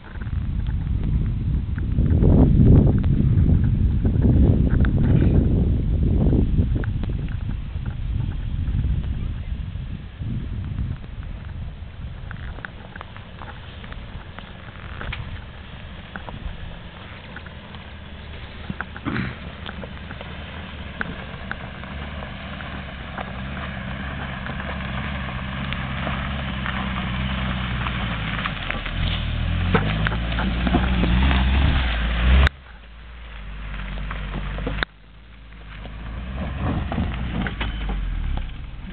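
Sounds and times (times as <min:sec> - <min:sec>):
car engine running under load: 0:00.0 - 0:38.9.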